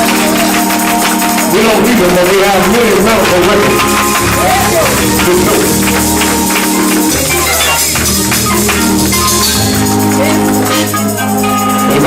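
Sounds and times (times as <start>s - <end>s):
held chords: 0.0s - 12.0s
tambourine beat: 0.0s - 12.0s.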